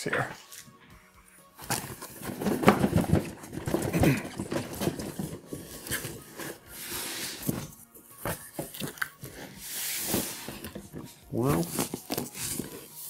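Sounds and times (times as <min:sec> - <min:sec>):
cardboard box scraping and rustling: 0:01.6 - 0:13.0.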